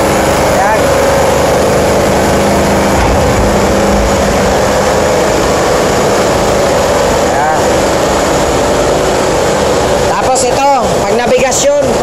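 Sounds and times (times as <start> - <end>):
constant low hum: 0.0 - 12.0
engine room machinery roar: 0.0 - 12.0.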